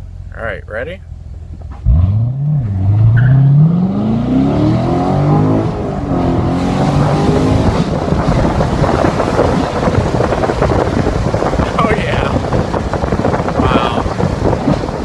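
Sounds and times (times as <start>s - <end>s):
car engine accelerating: 0.0s - 15.0s
wind noise: 1.5s - 15.0s.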